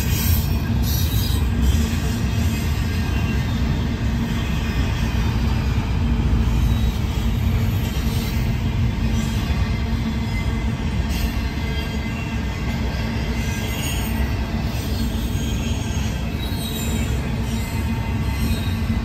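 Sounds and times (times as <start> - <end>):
steel wheels on rails: 0.0 - 19.0.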